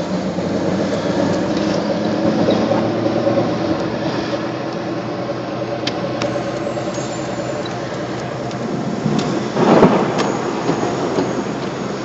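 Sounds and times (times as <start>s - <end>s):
road noise inside car: 0.0s - 12.0s.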